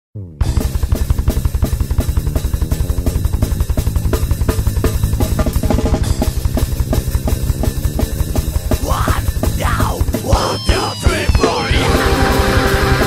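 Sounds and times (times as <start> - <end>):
rapid double bass drum kicks: 0.4 - 13.0.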